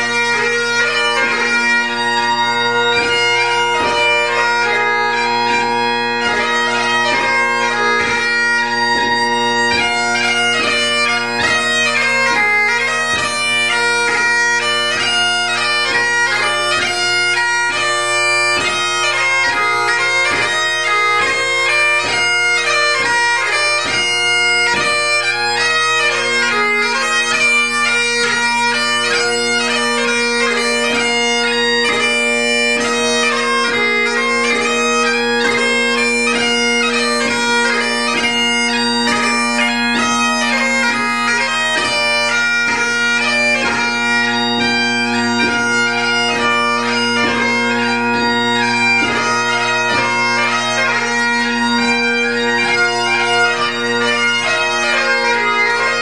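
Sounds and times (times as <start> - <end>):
bagpipe playing: 0.0 - 56.0.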